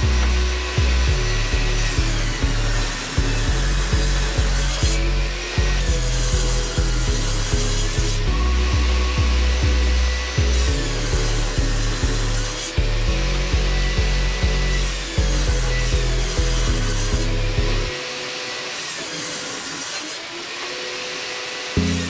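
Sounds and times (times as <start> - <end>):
background music with bass: 0.0 - 18.0, 21.8 - 22.0
table saw ripping boards: 0.0 - 22.0.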